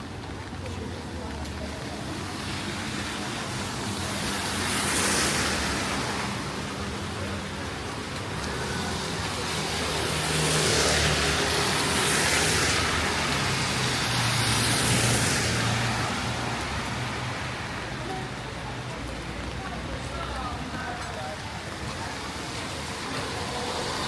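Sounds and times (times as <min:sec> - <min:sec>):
cars passing on wet road: 0:00.0 - 0:24.0.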